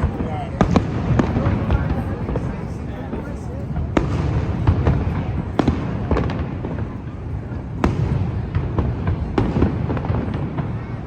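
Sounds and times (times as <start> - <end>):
fireworks booming: 0.0 - 11.0
fireworks sharp cracks: 0.0 - 11.0
small firework pops: 0.0 - 11.0.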